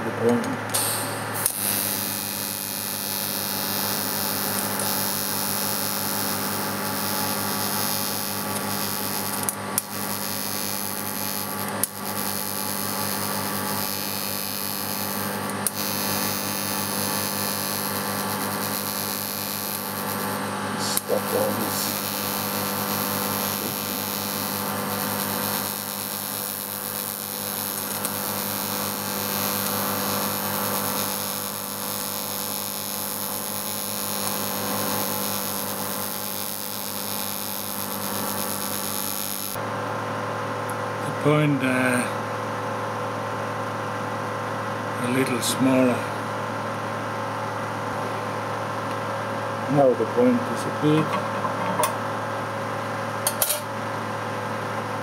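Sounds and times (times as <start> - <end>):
welding arc hum and hiss: 0.0 - 55.0.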